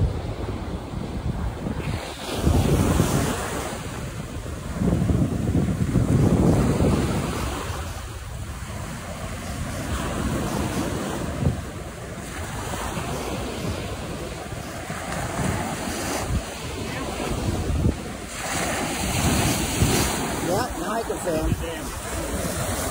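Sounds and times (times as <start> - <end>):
surf washing onto beach: 0.0 - 22.9
wind buffeting microphone: 0.0 - 22.9.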